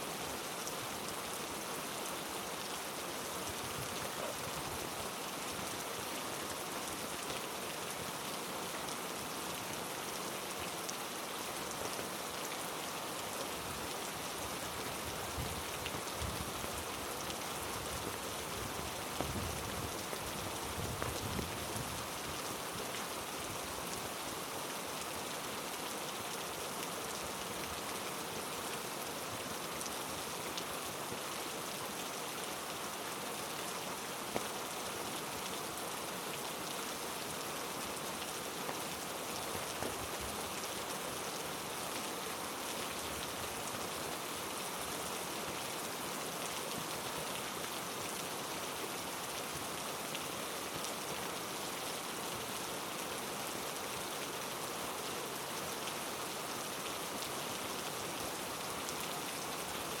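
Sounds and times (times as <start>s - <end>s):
heavy rain falling: 0.1s - 60.0s.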